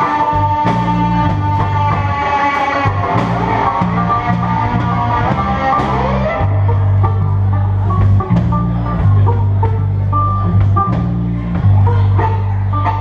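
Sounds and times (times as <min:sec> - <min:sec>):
banjo picking: 0:00.0 - 0:13.0
electric bass line: 0:00.0 - 0:13.0.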